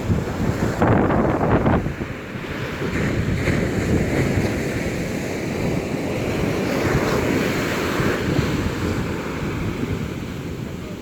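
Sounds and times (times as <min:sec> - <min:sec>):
rough sea surf breaking: 0:00.0 - 0:11.0
wind buffeting microphone: 0:00.0 - 0:11.0.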